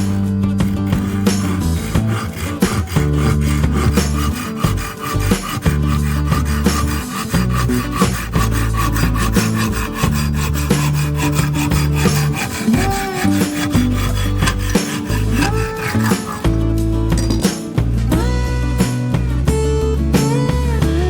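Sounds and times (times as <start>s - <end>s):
drill bit being sharpened by hand: 0.0s - 17.6s
background music with bass notes: 0.0s - 21.0s.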